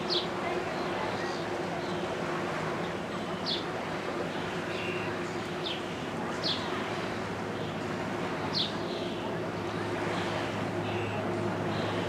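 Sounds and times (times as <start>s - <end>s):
low diesel engine drone: 0.0s - 12.0s.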